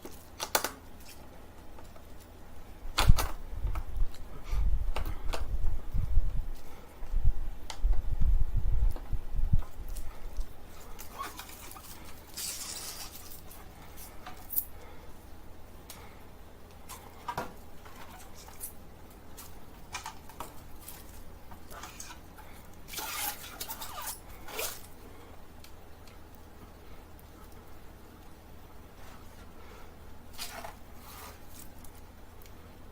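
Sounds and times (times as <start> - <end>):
rustling of handled things: 0.0 - 32.7.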